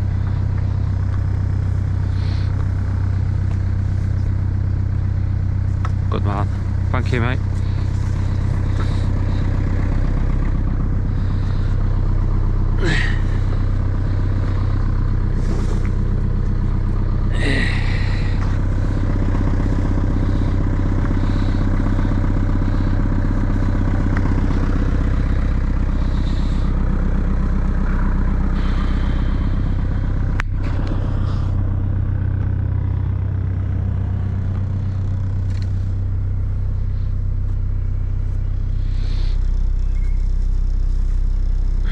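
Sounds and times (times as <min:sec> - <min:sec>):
boat engine humming: 0:00.0 - 0:41.9.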